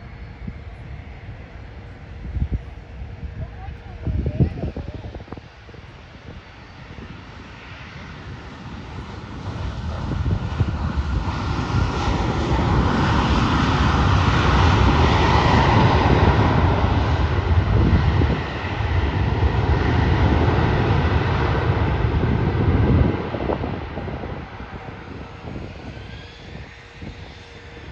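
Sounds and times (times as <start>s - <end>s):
plane engines passing: 0.0s - 27.9s.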